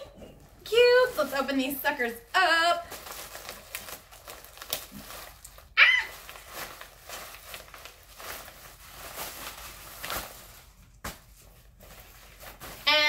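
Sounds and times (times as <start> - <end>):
plastic packaging crinkling: 0.6 - 13.0.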